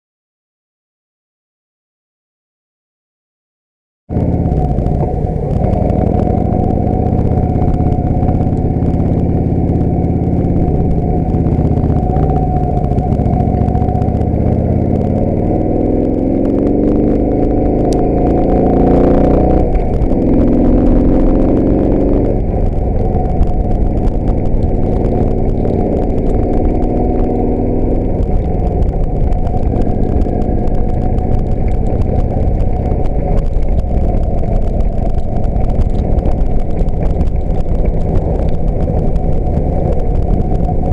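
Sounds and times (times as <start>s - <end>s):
motorcycle engine accelerating: 4.1s - 40.9s.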